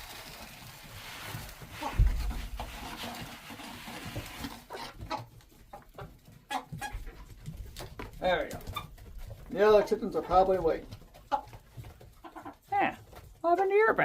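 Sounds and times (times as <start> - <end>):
chickens rustling and scuffling: 0.0 - 14.0.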